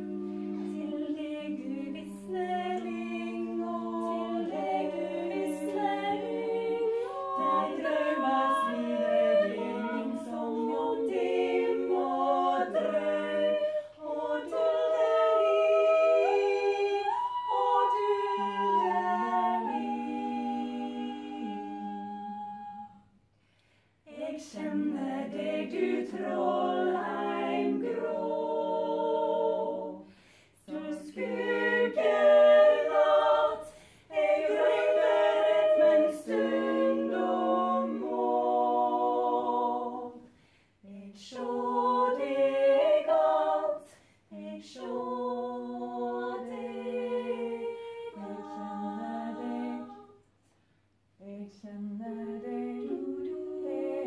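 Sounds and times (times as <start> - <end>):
women singing a cappella: 0.0 - 23.2, 24.0 - 54.0.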